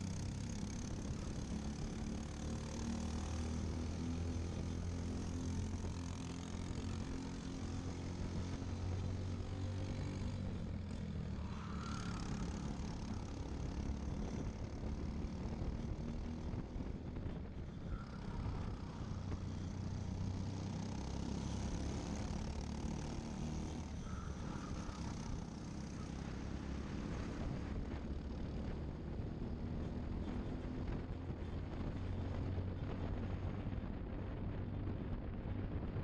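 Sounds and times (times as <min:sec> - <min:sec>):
kart engine at racing speed: 0:00.0 - 0:36.0
other kart engines nearby: 0:00.0 - 0:36.0.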